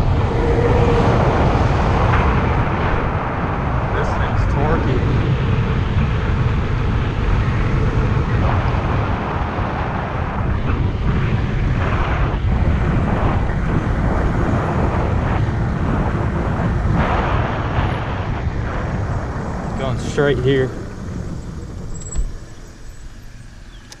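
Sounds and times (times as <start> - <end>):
road noise low rumble: 0.0 - 24.0
wind rush: 0.0 - 24.0.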